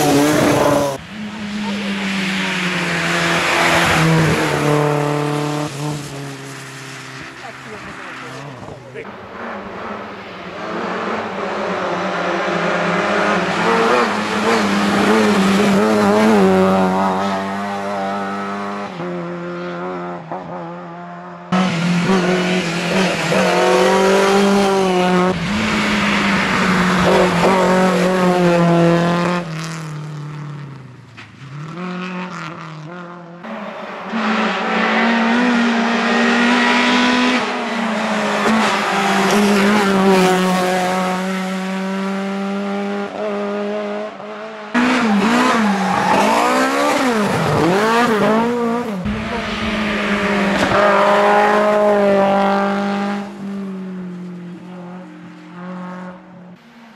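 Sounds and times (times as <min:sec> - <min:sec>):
rally car engines revving past: 0:00.0 - 0:56.9.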